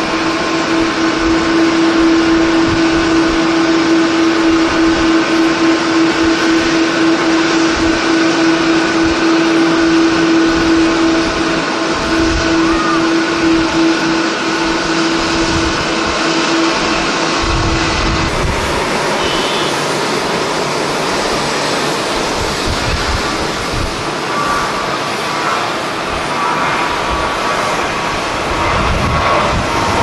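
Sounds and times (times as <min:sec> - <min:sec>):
wind buffeting microphone: 0:00.0 - 0:19.2, 0:19.9 - 0:30.0
jet engine roar: 0:00.0 - 0:30.0
steady hum: 0:00.0 - 0:30.0.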